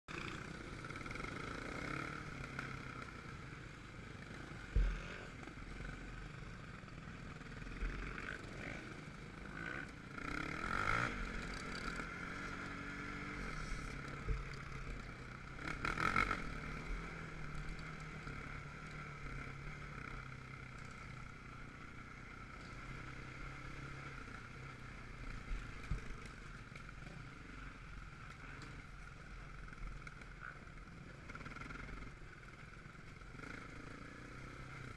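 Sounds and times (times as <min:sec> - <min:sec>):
atv engine revving: 0:00.1 - 0:34.9.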